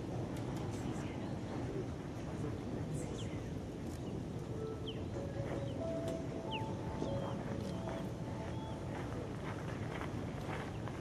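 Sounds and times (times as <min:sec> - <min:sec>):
faint fire crackles: 0:00.0 - 0:11.0.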